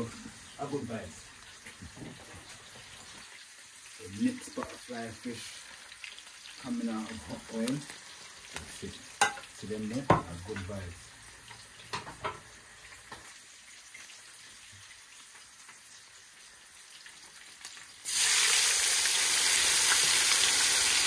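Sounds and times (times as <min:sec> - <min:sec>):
fish sizzling in oil: 0:00.0 - 0:21.0
hot oil sizzling: 0:00.0 - 0:21.0.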